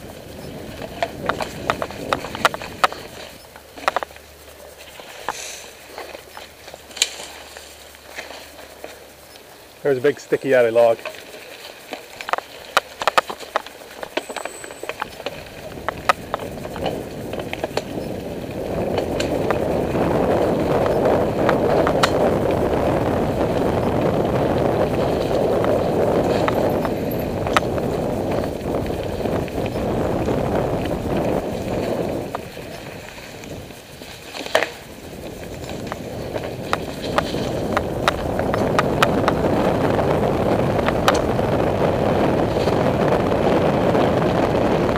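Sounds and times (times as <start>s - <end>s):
bike knocks and rattles: 0.0s - 4.2s, 10.7s - 44.9s
tyres rolling over dry leaves: 0.0s - 44.9s
wind on microphone: 0.0s - 44.9s.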